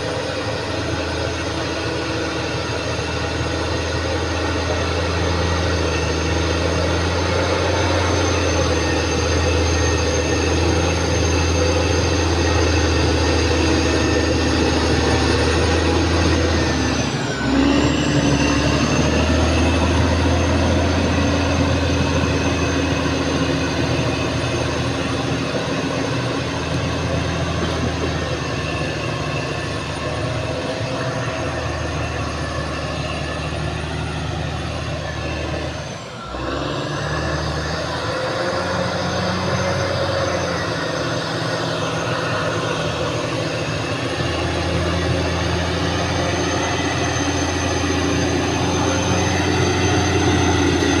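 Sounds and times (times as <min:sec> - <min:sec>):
bulldozer diesel engine: 0:00.0 - 0:51.0
high whine: 0:00.0 - 0:51.0.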